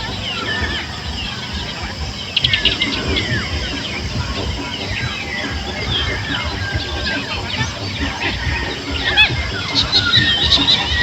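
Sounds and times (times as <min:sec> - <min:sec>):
bird rapid trill: 0:00.0 - 0:11.0
birds chirping and calling: 0:00.0 - 0:11.0
steady low rumble: 0:00.0 - 0:11.0.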